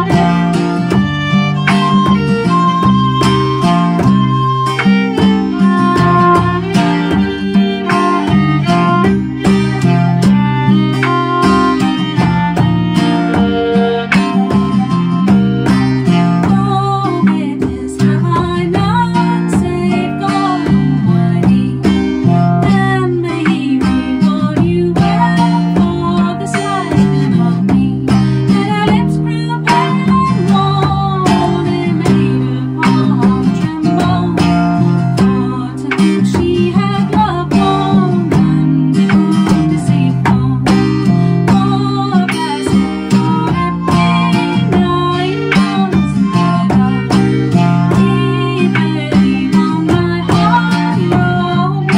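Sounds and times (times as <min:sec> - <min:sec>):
fiddle: 0:00.0 - 0:51.9
strummed acoustic guitar: 0:00.0 - 0:51.9
woman singing: 0:00.0 - 0:51.9.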